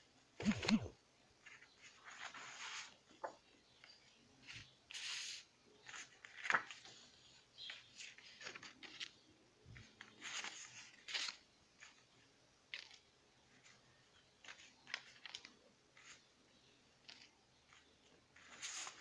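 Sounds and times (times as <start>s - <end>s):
paper cards rustling and sliding: 0.4s - 16.4s, 17.0s - 19.0s.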